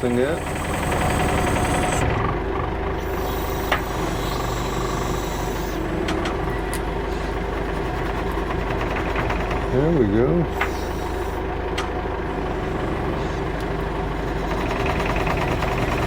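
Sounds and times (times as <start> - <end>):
backhoe engine running: 0.0 - 16.0.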